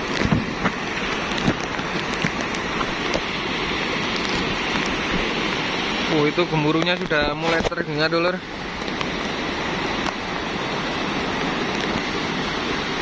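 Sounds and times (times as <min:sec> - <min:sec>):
muddy flood rushing with rumble: 0:00.0 - 0:13.0.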